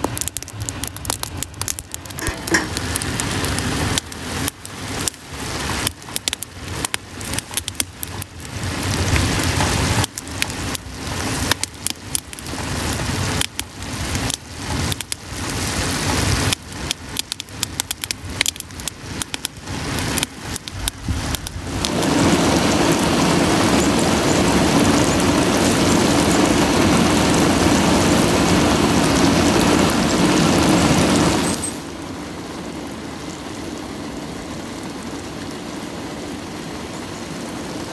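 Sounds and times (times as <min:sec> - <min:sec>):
sap boiling and spattering: 0:00.0 - 0:37.9.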